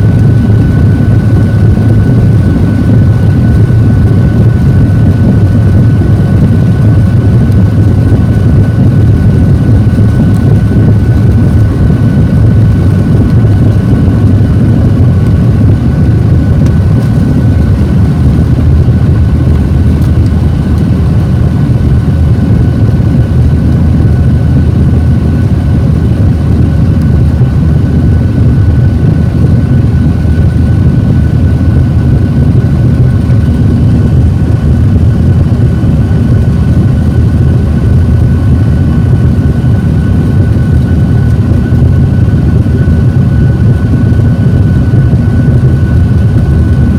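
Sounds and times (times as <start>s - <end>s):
faint steady whine: 0.0s - 46.9s
jet engine cabin rumble: 0.0s - 46.9s.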